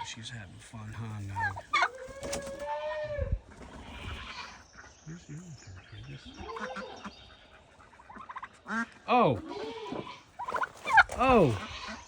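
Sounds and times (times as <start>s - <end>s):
turkey hen calling: 0.0s - 12.0s.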